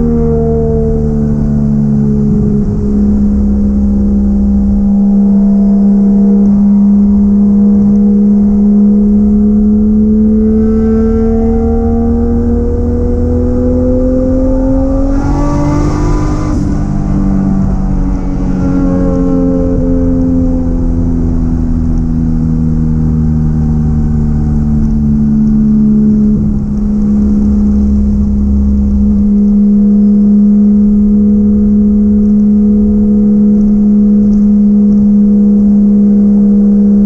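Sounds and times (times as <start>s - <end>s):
car engine under load: 0.0s - 37.0s.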